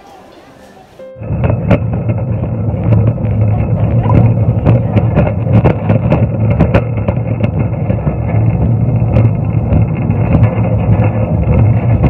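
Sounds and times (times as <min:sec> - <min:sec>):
trolley casters rumbling: 0:00.0 - 0:12.0.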